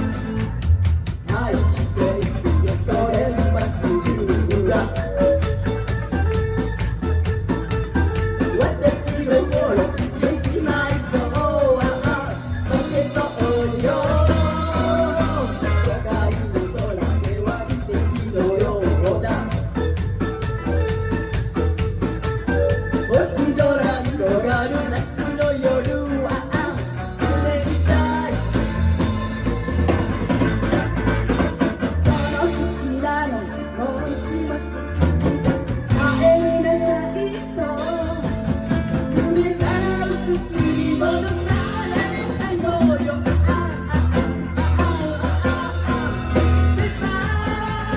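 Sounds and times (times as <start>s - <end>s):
person singing: 0.0s - 20.9s, 22.4s - 47.9s
rock band playing: 0.0s - 47.9s.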